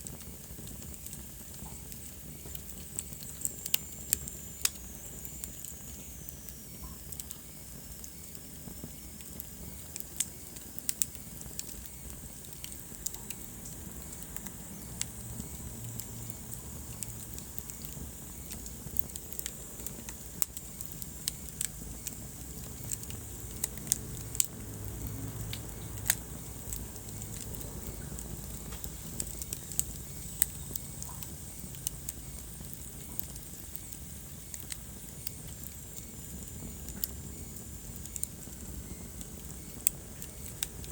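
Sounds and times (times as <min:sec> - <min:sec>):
low fire rumble and hiss: 0:00.0 - 0:40.9
wood fire crackling and popping: 0:00.0 - 0:40.9.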